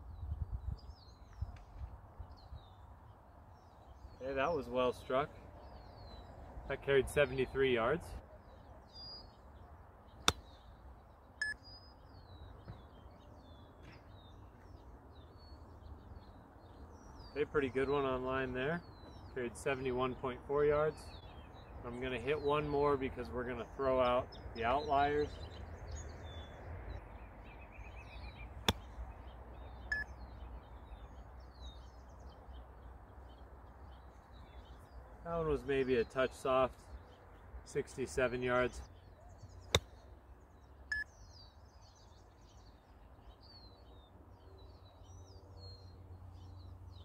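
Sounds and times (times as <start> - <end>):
birds chirping faintly: 0.0 - 47.0.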